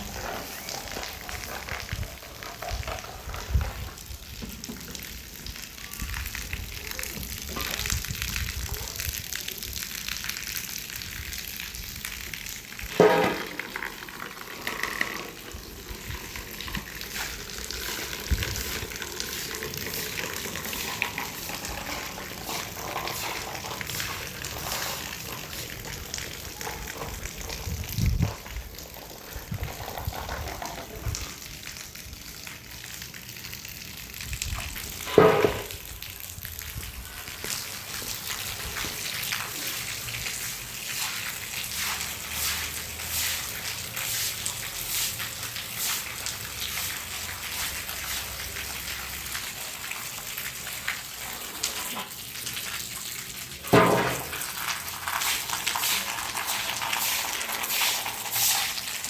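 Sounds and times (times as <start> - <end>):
water running and splashing: 0.0 - 59.0.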